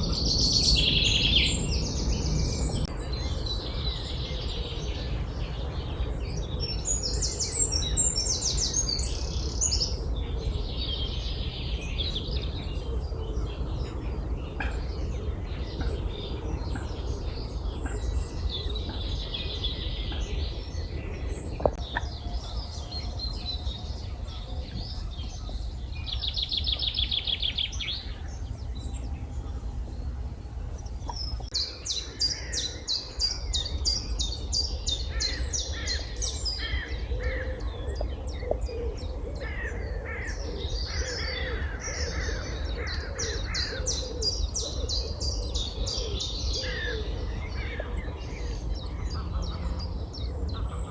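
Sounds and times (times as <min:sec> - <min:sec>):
steady low rumble: 0:00.0 - 0:43.4, 0:44.4 - 0:50.9
songbirds singing: 0:00.0 - 0:50.9.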